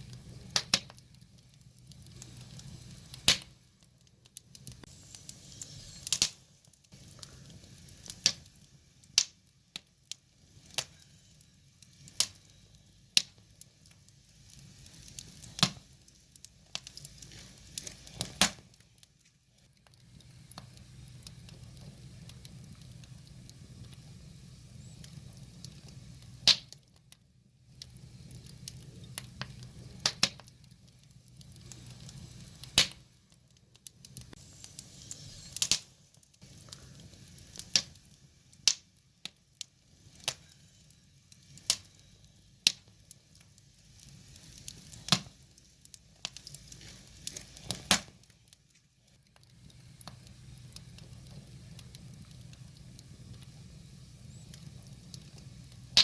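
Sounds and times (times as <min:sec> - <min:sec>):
firewood crackling and popping: 0:00.0 - 0:56.0
low steady fire hiss: 0:00.0 - 0:56.0.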